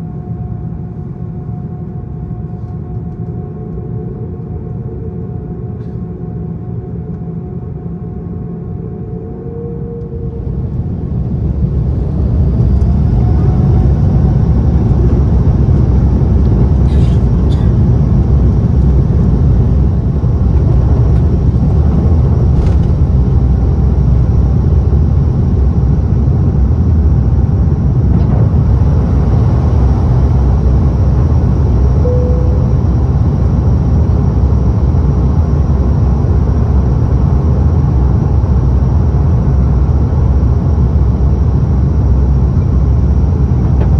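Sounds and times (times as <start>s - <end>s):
aircraft engines spooling up in cabin: 0.0s - 43.9s.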